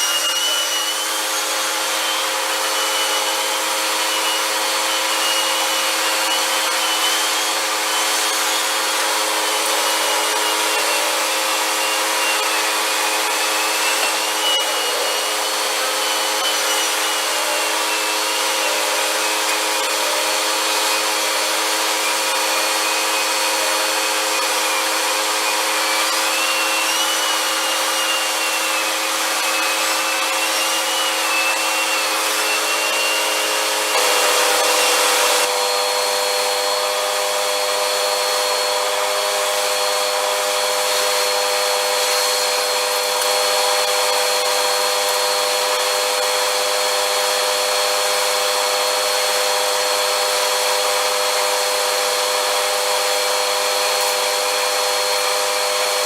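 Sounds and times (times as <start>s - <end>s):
vacuum cleaner whining motor: 0.0s - 56.0s.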